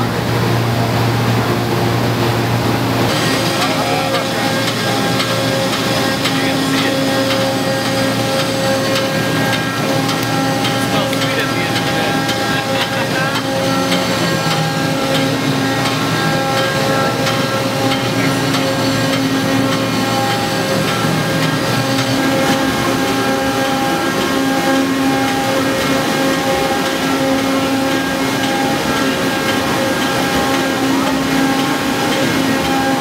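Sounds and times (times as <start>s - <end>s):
constant rushing noise: 0.0s - 33.0s
mill machinery hum: 0.0s - 33.0s.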